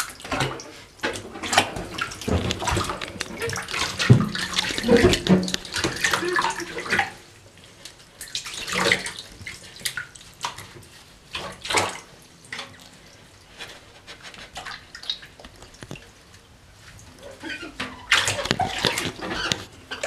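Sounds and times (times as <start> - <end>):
water splashing in bathtub: 0.0 - 20.0.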